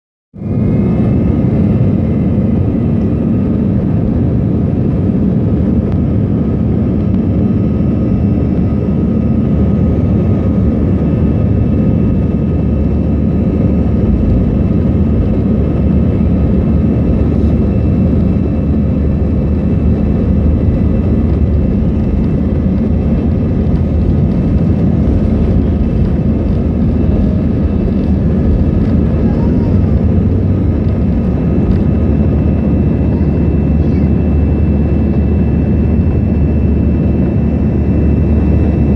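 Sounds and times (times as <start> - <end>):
jet engines rumbling: 0.4 - 38.9.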